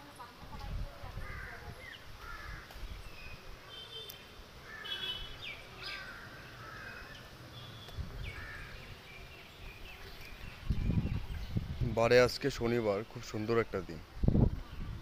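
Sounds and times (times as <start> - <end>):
birds chirping and calling: 1.2 - 13.7.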